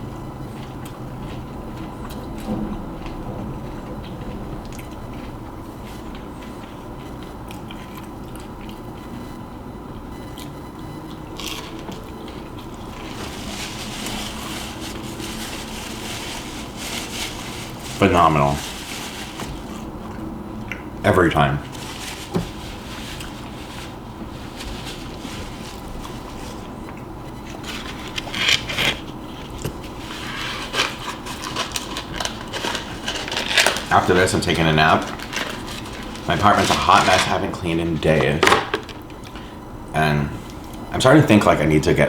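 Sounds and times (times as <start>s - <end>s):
crunchy chewing of fried food: 0.1s - 20.9s, 21.6s - 38.3s.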